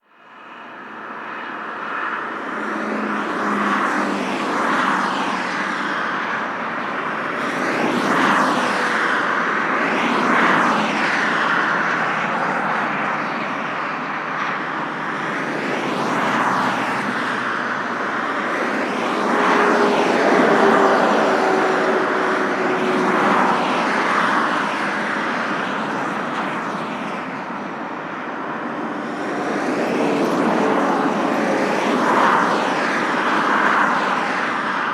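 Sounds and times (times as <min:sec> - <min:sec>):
motorway traffic rushing: 0:00.1 - 0:34.9
vehicles passing: 0:00.4 - 0:34.9.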